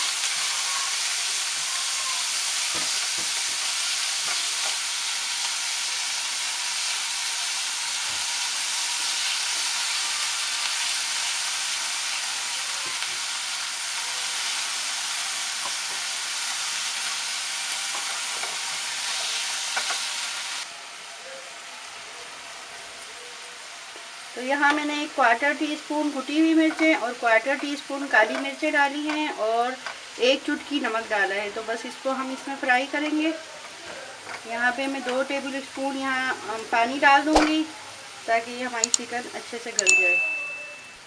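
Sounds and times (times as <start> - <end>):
chicken sizzling in a frying pan: 0.0 - 39.8.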